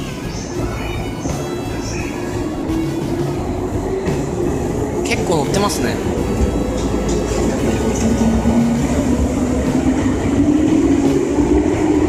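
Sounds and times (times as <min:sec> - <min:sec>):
electric train rumbling past: 0:00.0 - 0:12.0
train whine rising in pitch: 0:00.0 - 0:12.0.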